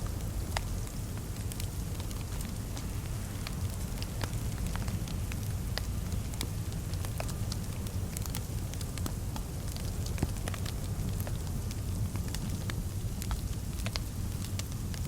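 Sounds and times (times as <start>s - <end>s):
low fire rumble: 0.0s - 15.0s
fireplace crackling and popping: 0.1s - 15.0s.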